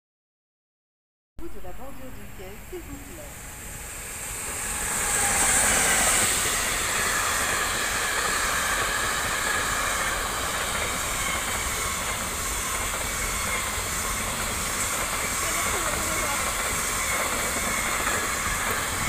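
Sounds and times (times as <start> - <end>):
electric locomotive passing: 1.4 - 19.0.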